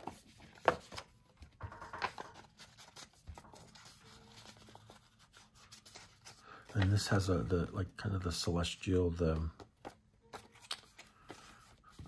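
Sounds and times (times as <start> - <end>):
paper rustling: 0.0 - 7.5, 9.0 - 12.0.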